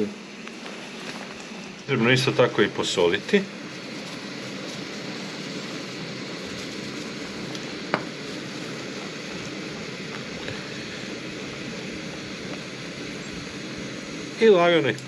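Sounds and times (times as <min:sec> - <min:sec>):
hiss of gas cookers burning: 0:00.0 - 0:15.0
mushrooms cooking in pan: 0:00.0 - 0:15.0.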